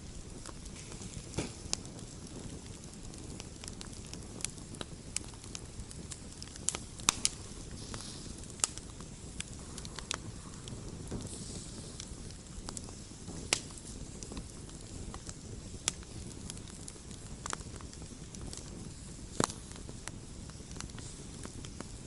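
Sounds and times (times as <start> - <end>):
campfire crackling and popping: 0.0 - 22.0
flames rushing: 0.0 - 22.0.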